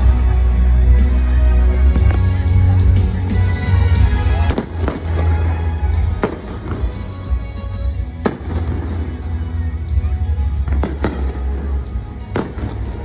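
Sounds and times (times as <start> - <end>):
show music: 0.0 - 13.0
fireworks bursting in sharp bangs: 1.0 - 3.2, 4.0 - 13.0.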